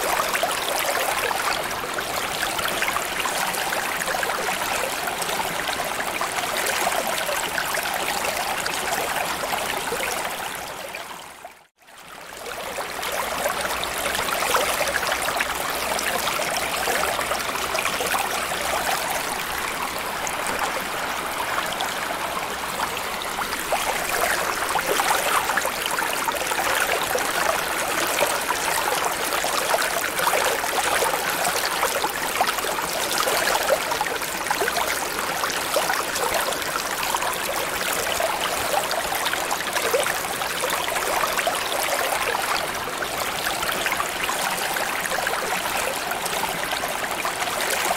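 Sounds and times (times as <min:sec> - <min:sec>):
water flowing and bubbling: 0:00.0 - 0:47.9.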